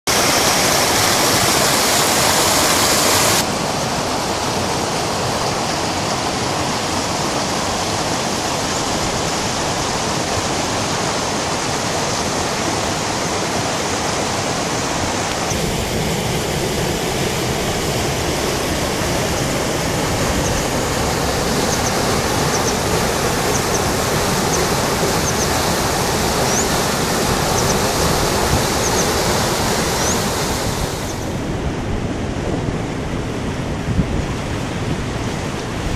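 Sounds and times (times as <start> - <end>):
water rushing and churning: 0.0 - 35.9.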